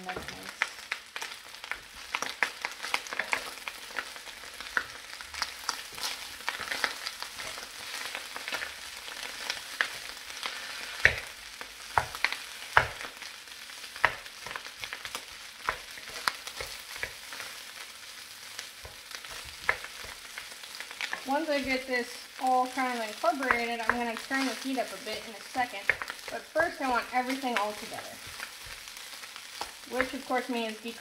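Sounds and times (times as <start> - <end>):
rice sizzling and crackling: 0.0 - 31.0
wooden spoon knocking wok: 0.1 - 10.4, 11.0 - 17.7, 18.4 - 21.9, 22.7 - 30.7.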